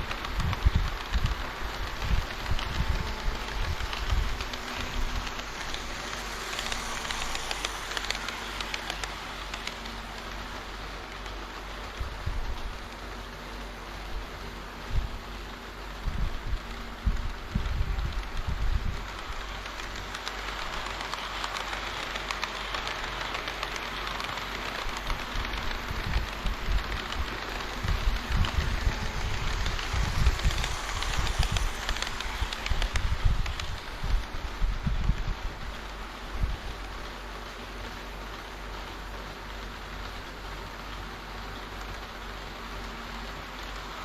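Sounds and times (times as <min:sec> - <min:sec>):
model train rolling on track: 0:00.0 - 0:44.0.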